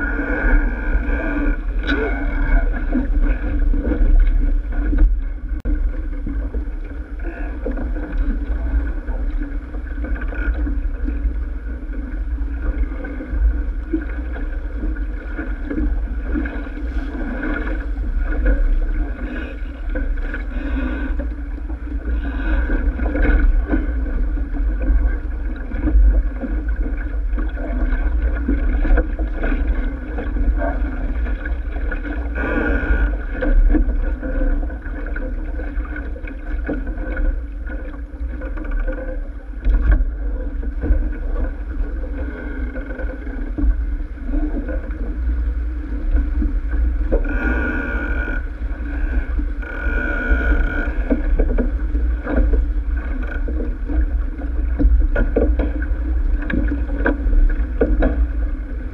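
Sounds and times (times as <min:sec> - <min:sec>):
water rushing along boat hull: 0:00.0 - 0:58.9.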